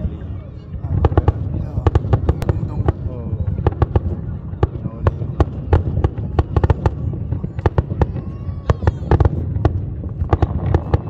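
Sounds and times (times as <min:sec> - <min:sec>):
fireworks bursting with sharp bangs: 0:00.0 - 0:11.0
steady low rumble: 0:00.0 - 0:11.0.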